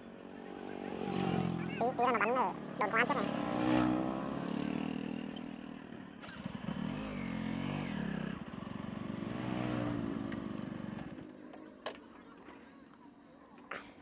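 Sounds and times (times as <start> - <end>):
motorbike engines passing: 0.0 - 13.5.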